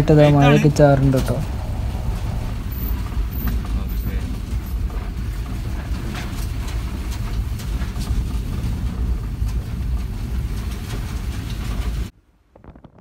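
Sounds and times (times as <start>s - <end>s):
engine and road rumble: 0.0s - 12.1s.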